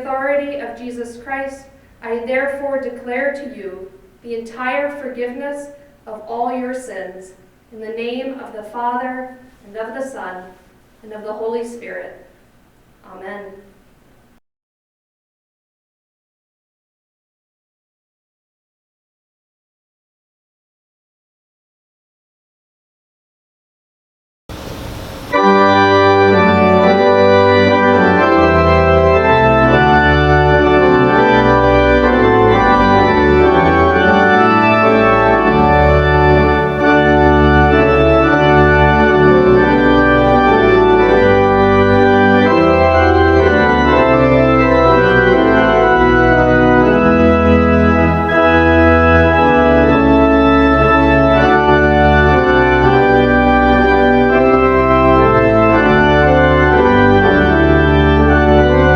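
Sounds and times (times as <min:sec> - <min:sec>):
organ playing chords: 0:00.0 - 0:14.0, 0:24.5 - 0:58.9.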